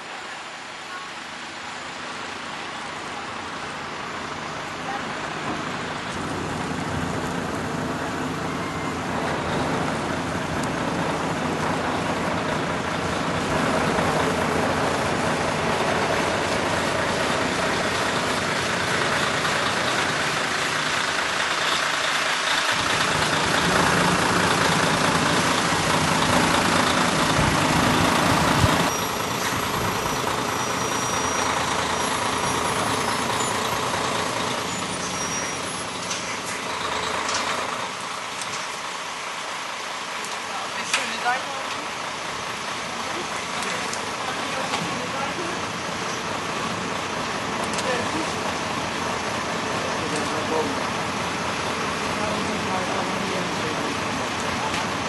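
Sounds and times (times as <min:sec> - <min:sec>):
heavy diesel engine running: 0:01.3 - 0:55.0.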